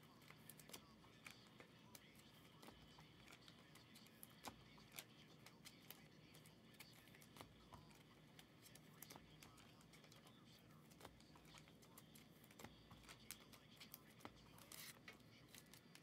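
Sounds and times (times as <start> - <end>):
trading cards clicking on table: 0.1 - 16.0.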